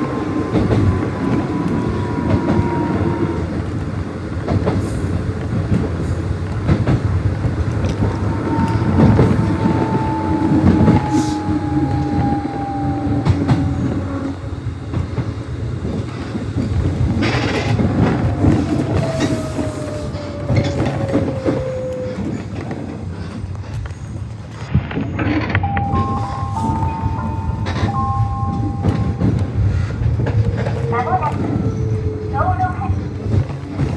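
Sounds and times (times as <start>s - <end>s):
electric train rumbling: 0.0s - 33.9s
wheels clacking over rail joints: 0.0s - 33.9s.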